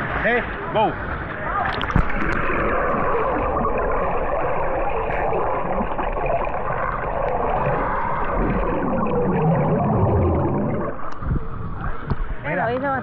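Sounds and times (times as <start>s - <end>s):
steady water noise: 0.0s - 13.0s.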